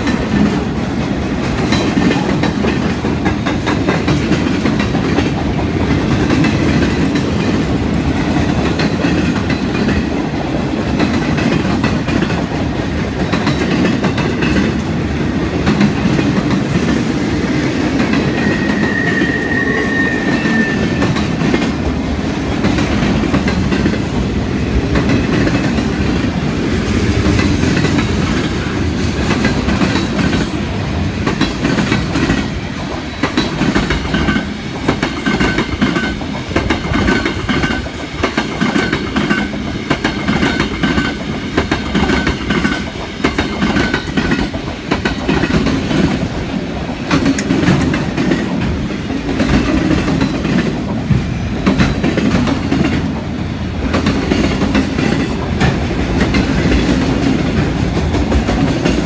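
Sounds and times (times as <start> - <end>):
train wheels clacking over rail joints: 0.0 - 19.3, 19.9 - 59.0.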